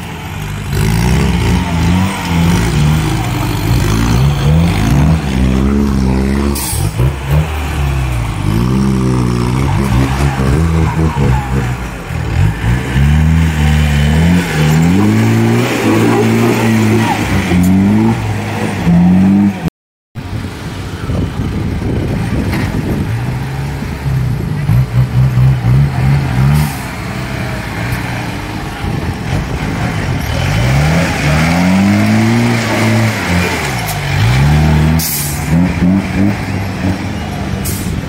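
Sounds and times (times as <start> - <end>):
jeep engine revving: 0.0 - 19.7, 21.5 - 38.0.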